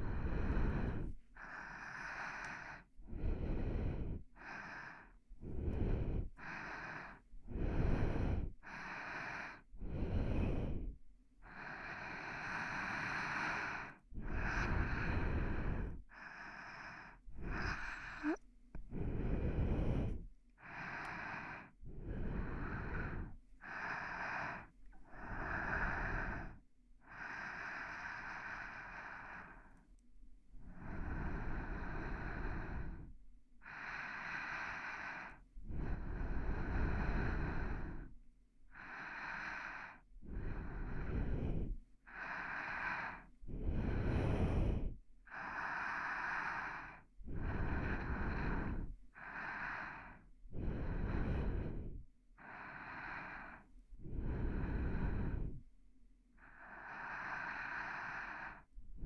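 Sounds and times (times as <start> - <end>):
person breathing slowly: 0.0 - 59.0.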